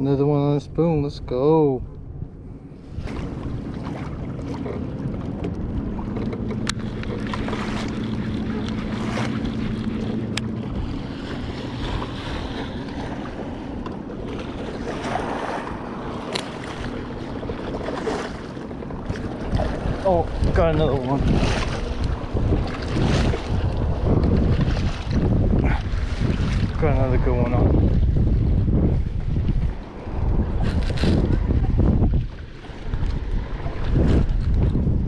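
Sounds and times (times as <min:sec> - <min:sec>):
steady low hum: 0:00.0 - 0:33.6
water lapping: 0:00.0 - 0:35.0
wind buffeting microphone: 0:00.0 - 0:35.0.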